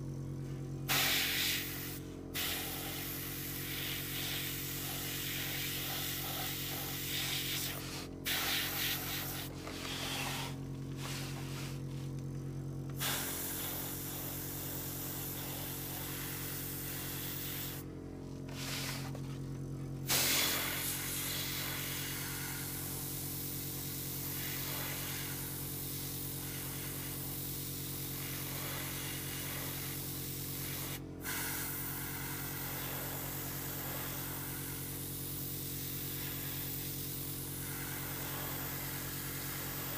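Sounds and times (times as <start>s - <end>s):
steady hum: 0.0s - 39.9s
airbrush spraying hiss: 0.9s - 12.2s, 12.9s - 17.9s, 18.5s - 19.3s, 20.0s - 39.9s.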